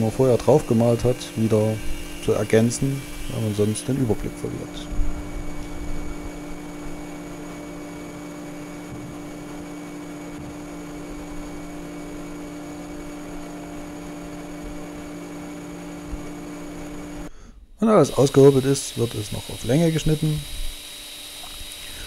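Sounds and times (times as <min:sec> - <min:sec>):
planer machine hum: 0:00.0 - 0:17.3, 0:17.9 - 0:22.0.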